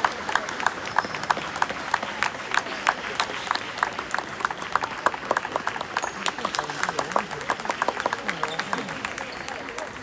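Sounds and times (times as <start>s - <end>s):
low crowd hubbub: 0.0s - 10.0s
scattered clapping: 0.0s - 10.0s.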